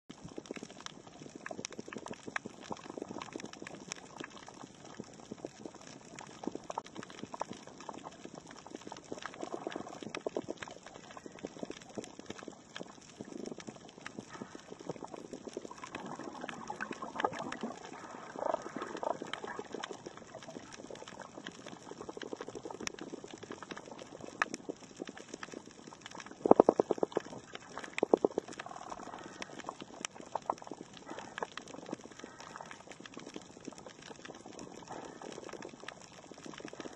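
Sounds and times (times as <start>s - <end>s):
snapping shrimp crackle underwater: 0.1s - 36.9s.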